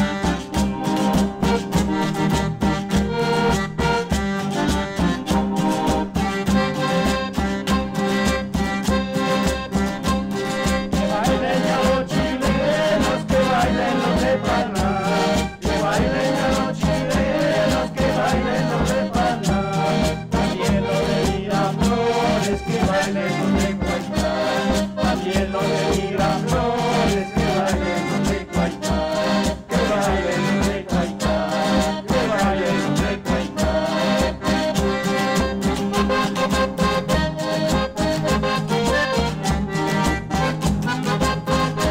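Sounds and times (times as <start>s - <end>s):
instrumental dance music: 0.0s - 41.9s.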